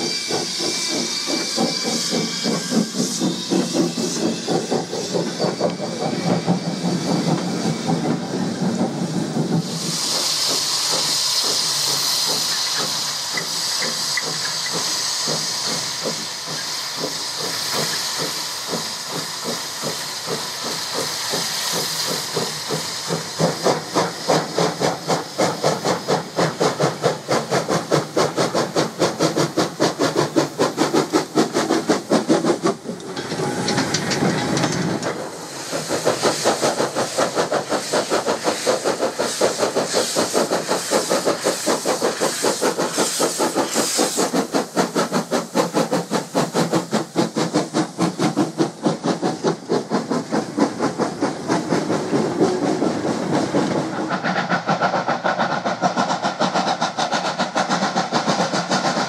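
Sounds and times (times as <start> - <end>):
steam hissing from drain cocks: 0.0 - 59.0
steam locomotive exhaust beats: 0.0 - 59.0.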